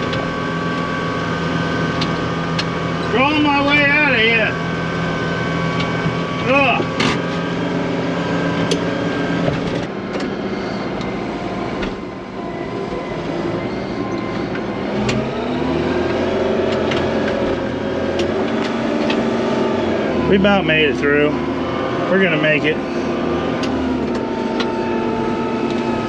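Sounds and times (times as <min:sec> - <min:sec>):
tractor engine under heavy load: 0:00.0 - 0:26.0.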